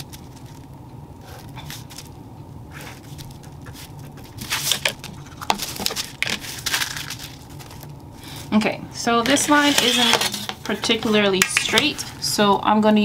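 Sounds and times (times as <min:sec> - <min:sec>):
thin paper rustling and crinkling: 0:00.0 - 0:02.2, 0:02.8 - 0:08.5, 0:09.3 - 0:12.2.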